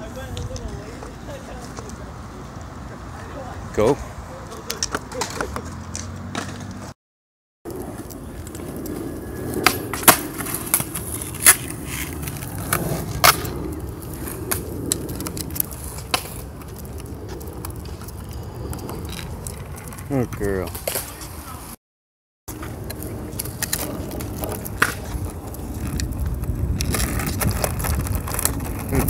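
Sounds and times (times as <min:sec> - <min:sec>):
skateboard wheels rolling on concrete: 0:00.0 - 0:07.0, 0:07.6 - 0:21.8, 0:22.5 - 0:29.0.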